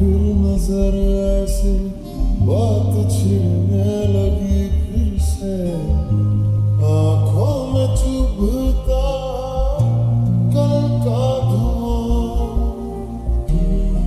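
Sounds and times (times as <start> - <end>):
deep bass notes: 0.0 - 14.0
slowed reverb-heavy sung melody: 0.0 - 14.0.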